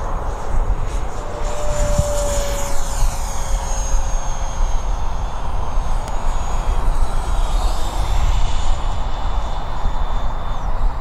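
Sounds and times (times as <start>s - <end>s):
model jet rushing whine: 0.0s - 11.0s.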